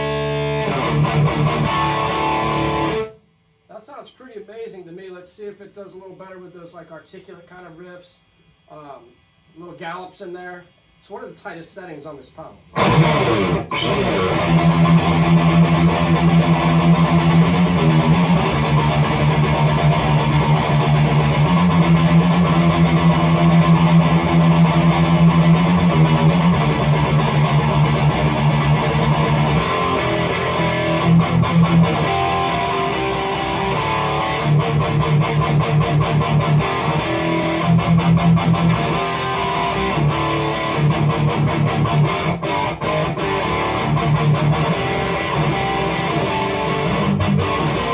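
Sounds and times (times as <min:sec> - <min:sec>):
distorted electric guitar riffs: 0:00.0 - 0:04.0, 0:12.1 - 0:47.9.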